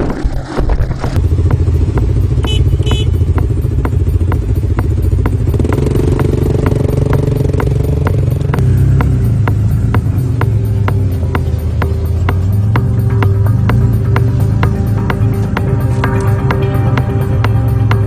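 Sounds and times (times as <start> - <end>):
atv engine running: 0.4 - 18.0
second engine: 0.4 - 18.0.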